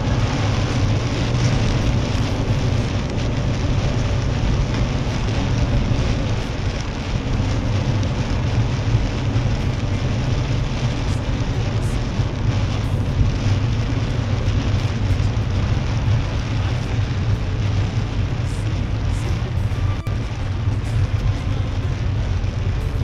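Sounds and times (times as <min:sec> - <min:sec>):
drops ticking on windscreen: 0:00.0 - 0:23.0
heavy rain on a car: 0:00.0 - 0:23.0
tyres on flooded road: 0:00.0 - 0:23.0.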